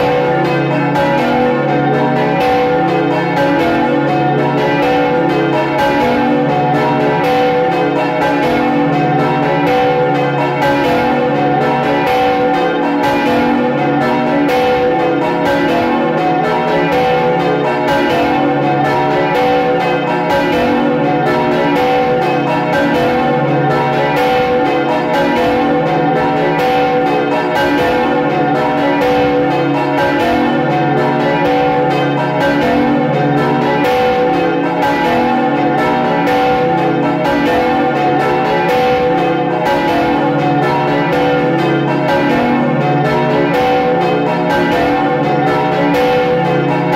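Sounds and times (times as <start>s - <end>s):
church bells pealing: 0.0s - 46.9s.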